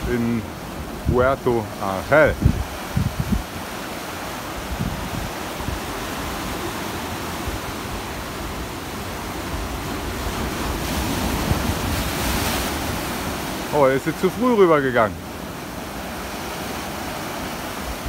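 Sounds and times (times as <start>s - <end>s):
ocean surf churning against rocks: 0.0s - 18.0s
wave breaking: 0.0s - 18.0s.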